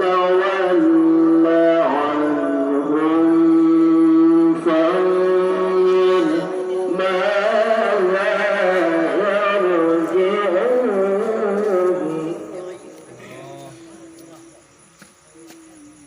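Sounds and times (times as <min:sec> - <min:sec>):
man reciting melodically: 0:00.0 - 0:14.5.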